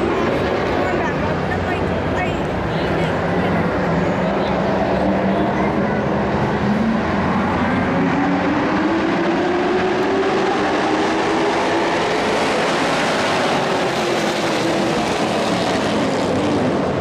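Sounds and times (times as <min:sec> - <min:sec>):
race truck engines roaring: 0:00.0 - 0:17.0.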